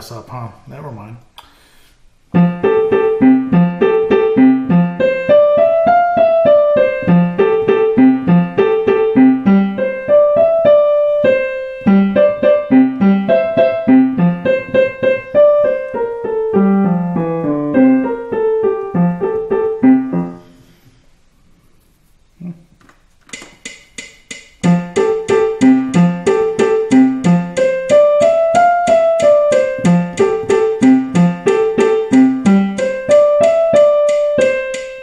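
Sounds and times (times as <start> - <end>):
digital piano practice piece: 2.3 - 20.8, 23.3 - 35.0.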